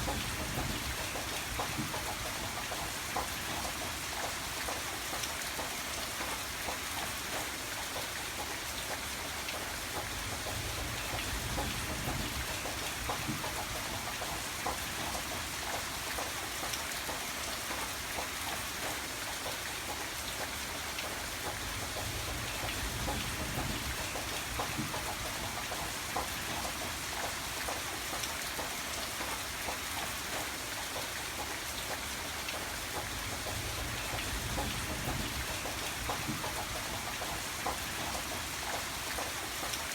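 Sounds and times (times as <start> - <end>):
rain falling: 0.0 - 39.9
raindrops ticking: 0.0 - 39.9.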